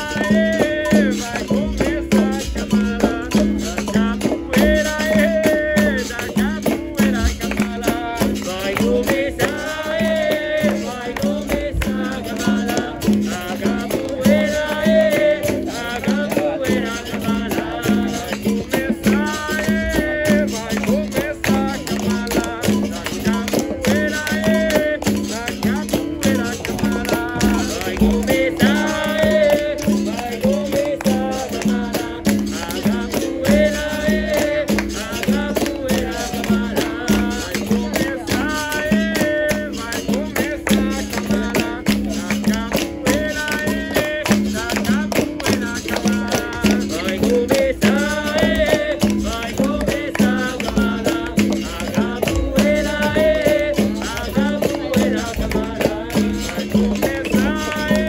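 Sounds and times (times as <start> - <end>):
percussion strikes: 0.0 - 58.0
shaker: 0.0 - 58.0
voices singing: 0.0 - 58.0.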